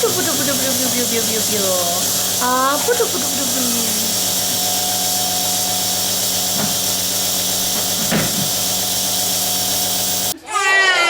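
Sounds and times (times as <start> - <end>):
small motor humming: 0.0 - 10.4.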